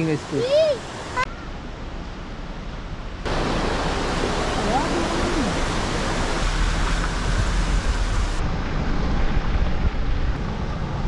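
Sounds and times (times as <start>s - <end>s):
car and tyres rumbling on road: 1.9s - 11.0s.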